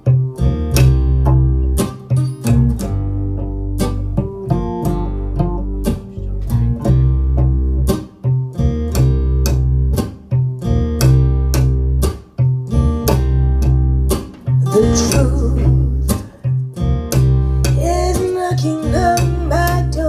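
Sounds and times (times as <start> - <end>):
deep sustained bass line: 0.0 - 16.2, 16.8 - 20.0
plucked guitar notes: 0.0 - 20.0.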